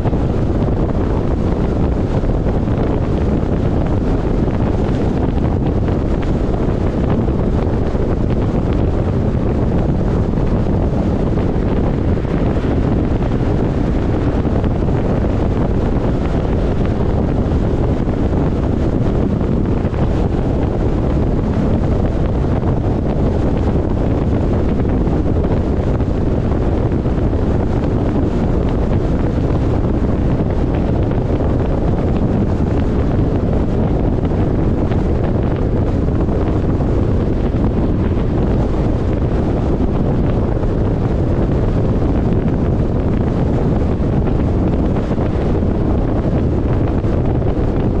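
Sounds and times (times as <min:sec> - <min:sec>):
wind buffeting the microphone: 0:00.0 - 0:48.0
wind rush: 0:00.0 - 0:48.0.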